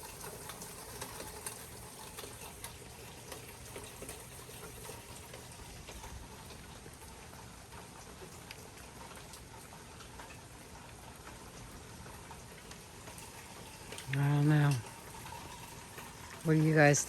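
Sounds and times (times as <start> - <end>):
light rain falling: 0.0 - 17.0
raindrops tapping: 0.0 - 17.0.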